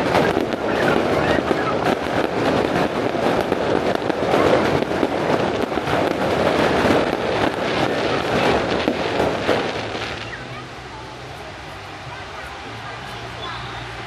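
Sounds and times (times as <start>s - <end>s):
fireworks crackling: 0.0s - 14.0s.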